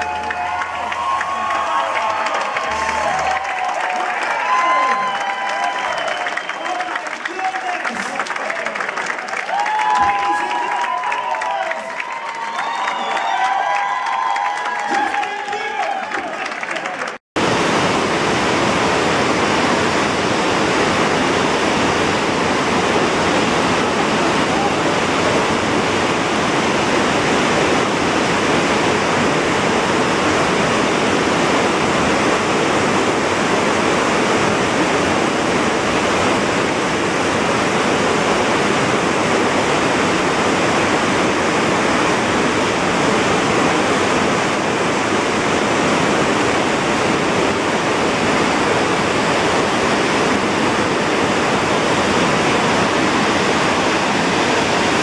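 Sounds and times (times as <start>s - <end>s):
churning water rushing: 0.0s - 55.0s.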